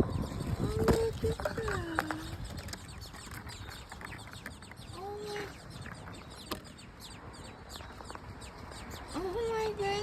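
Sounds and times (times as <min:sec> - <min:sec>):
nestlings begging chirps: 0:00.0 - 0:10.0.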